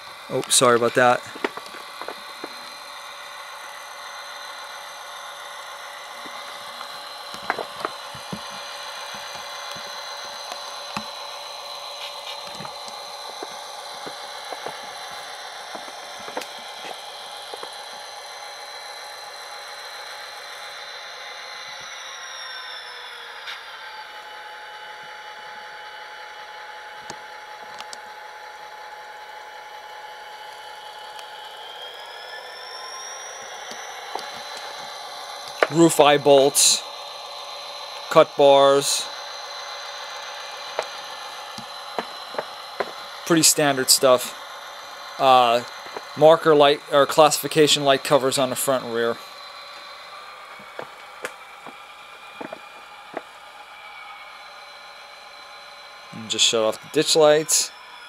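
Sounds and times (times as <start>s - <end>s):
diesel engine drone from small speaker: 0.0s - 58.0s.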